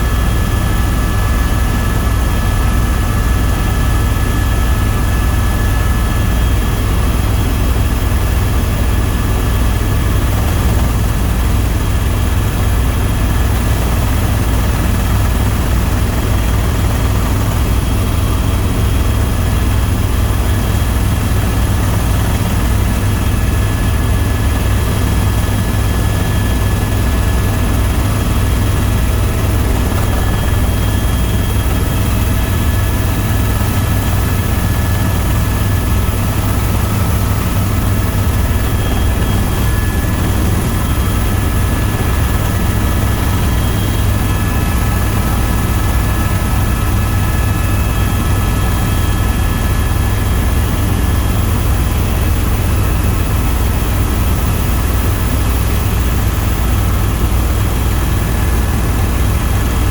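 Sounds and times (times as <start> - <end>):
helicopter rotor and engine drone: 0.0 - 59.9
high turbine whine: 0.0 - 59.9.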